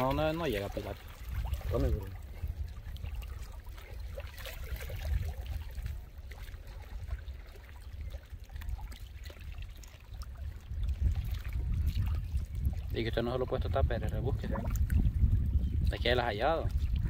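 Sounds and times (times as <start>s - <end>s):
small water splashes: 0.0s - 17.0s
water lapping and sloshing: 0.0s - 17.0s.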